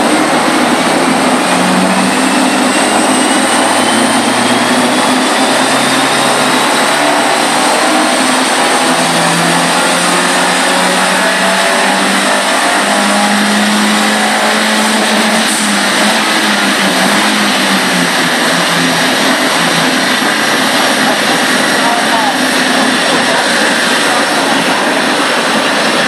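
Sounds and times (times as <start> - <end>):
car engine under load: 0.0 - 26.0
loud steady rush of noise: 0.0 - 26.0.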